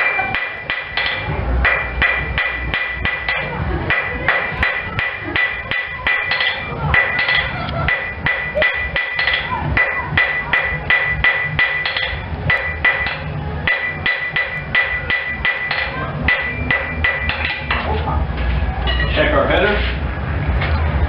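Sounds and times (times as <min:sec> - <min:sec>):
hammer striking iron on anvil: 0:00.0 - 0:17.9.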